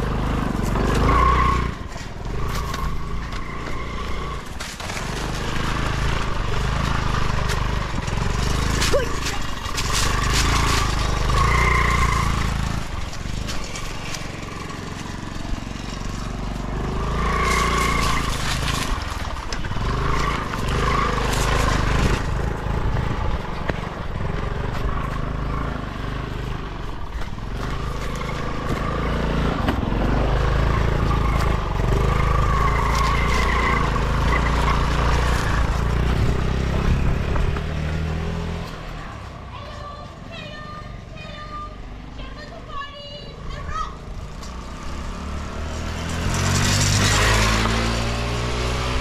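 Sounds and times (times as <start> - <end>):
scooter engine running: 0.0 - 49.0.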